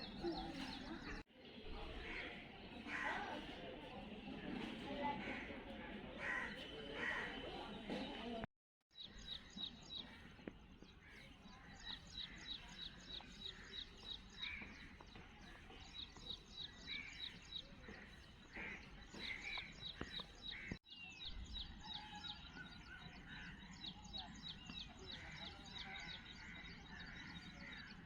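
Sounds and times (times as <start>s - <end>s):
small birds chirping: 0.0s - 5.4s, 6.2s - 28.0s.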